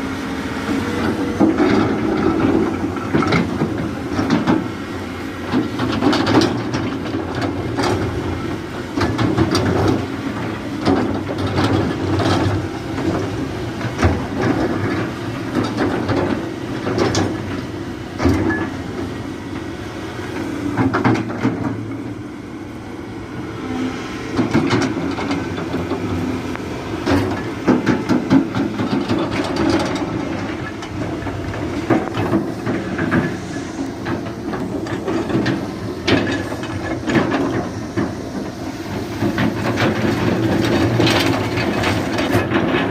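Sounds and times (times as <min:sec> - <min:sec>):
excavator diesel engine under load: 0:00.0 - 0:42.9.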